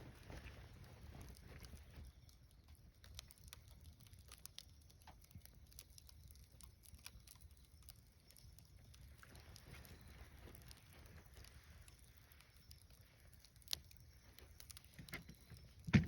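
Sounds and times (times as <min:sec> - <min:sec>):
wood fire crackling: 0:00.0 - 0:16.0
sharp pops and snaps: 0:00.3 - 0:16.0.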